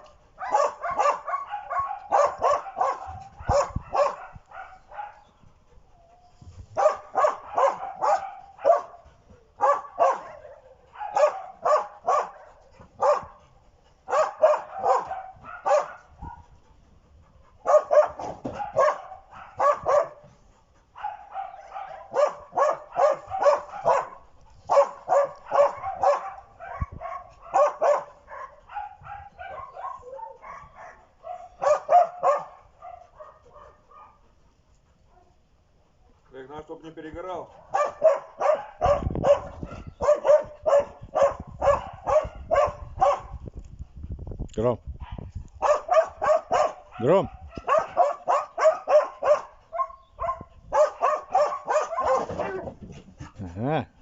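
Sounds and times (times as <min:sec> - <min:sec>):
dog barking excitedly: 0:00.0 - 0:05.3, 0:06.7 - 0:16.6, 0:17.4 - 0:34.3, 0:37.2 - 0:43.4, 0:45.0 - 0:54.0
dog drawn-out cries: 0:00.0 - 0:13.4, 0:14.1 - 0:16.4, 0:17.6 - 0:20.3, 0:21.0 - 0:34.2, 0:37.7 - 0:43.3, 0:45.1 - 0:52.8.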